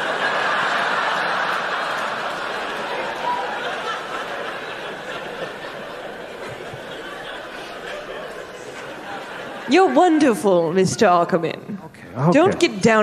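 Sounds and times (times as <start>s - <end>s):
audience laughing: 0.0s - 11.4s.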